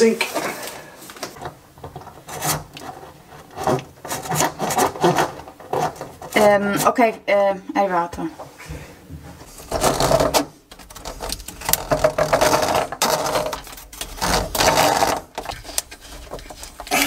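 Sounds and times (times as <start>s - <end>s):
plastic hose scraping and knocking: 0.0s - 7.1s, 8.2s - 17.0s.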